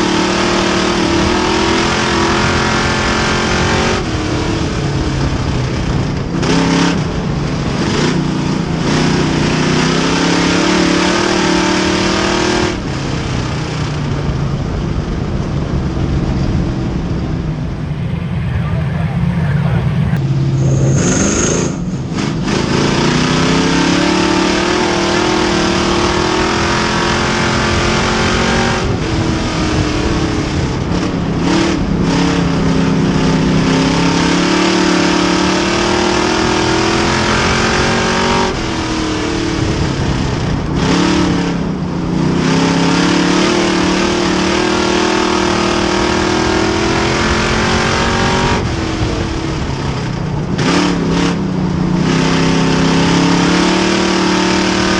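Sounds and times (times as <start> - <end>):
race car engine: 0.0 - 54.9.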